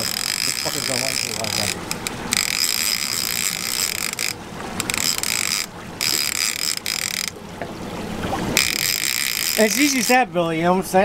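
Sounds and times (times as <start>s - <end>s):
fishing reel whirring and clicking: 0.0s - 7.4s, 8.5s - 10.2s.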